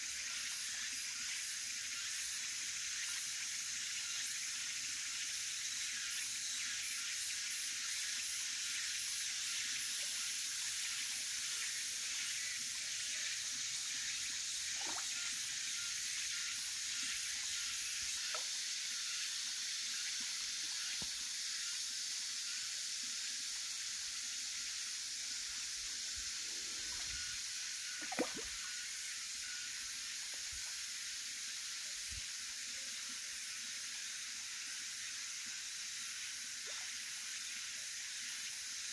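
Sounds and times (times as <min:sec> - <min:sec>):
steady high-pitched outdoor hiss: 0:00.0 - 0:38.9.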